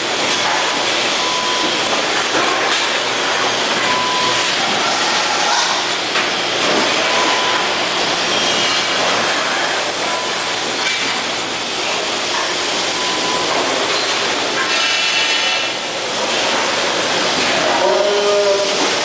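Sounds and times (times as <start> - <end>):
production-line machinery rumble: 0.0 - 19.0.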